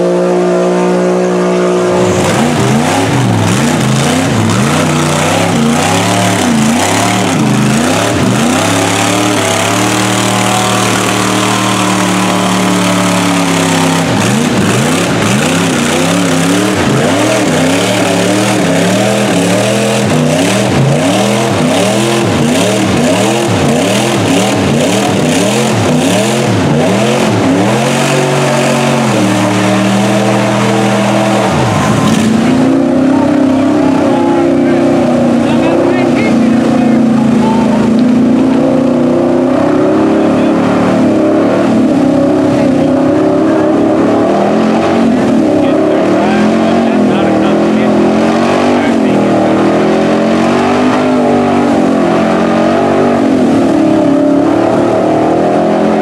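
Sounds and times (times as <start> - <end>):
off-road engines revving in mud: 0.0 - 56.0.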